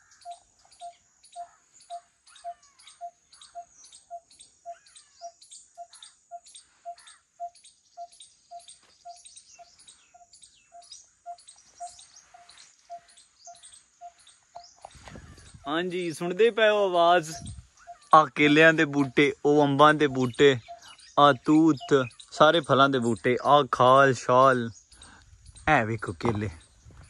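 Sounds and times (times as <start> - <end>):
birds chirping and whistling: 0.0 - 27.0.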